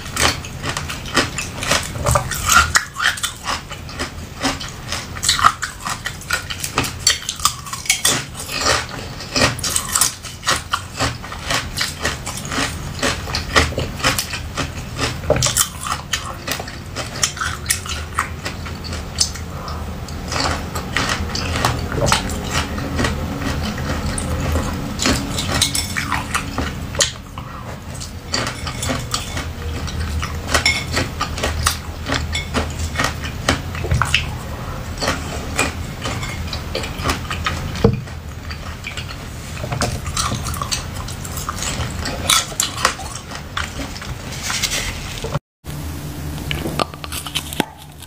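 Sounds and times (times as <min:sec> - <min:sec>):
crunching and chewing frozen seeds: 0:00.0 - 0:48.0.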